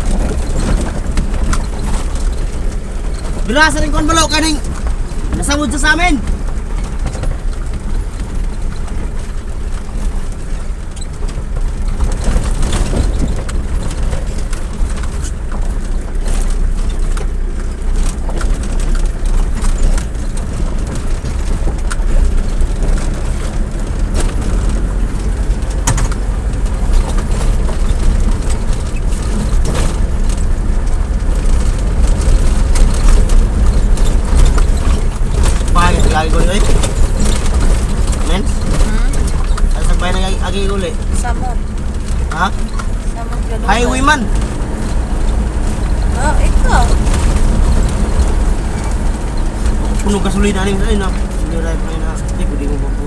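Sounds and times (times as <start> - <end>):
vehicle engine and road rumble: 0.0 - 53.0.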